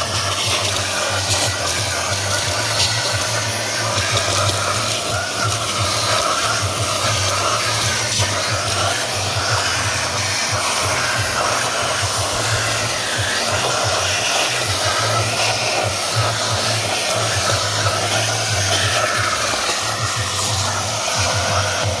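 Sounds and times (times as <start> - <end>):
vacuum cleaner sucking debris: 0.0 - 22.0.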